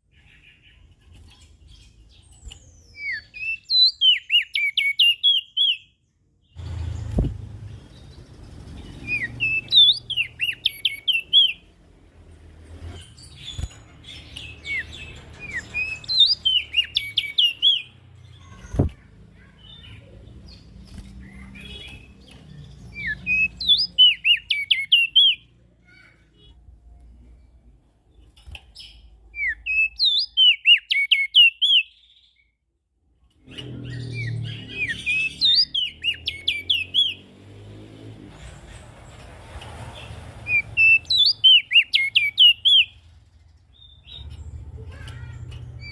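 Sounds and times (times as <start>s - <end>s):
bird twittering chirps: 0.0s - 11.8s, 12.8s - 26.1s, 28.1s - 32.5s, 33.4s - 37.4s, 40.0s - 45.9s.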